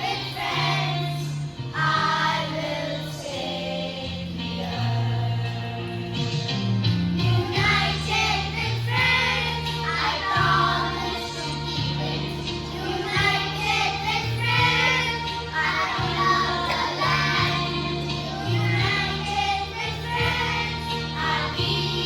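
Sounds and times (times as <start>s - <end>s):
children singing together: 0.0s - 5.8s, 7.2s - 22.0s
instrumental music with bass: 0.0s - 22.0s.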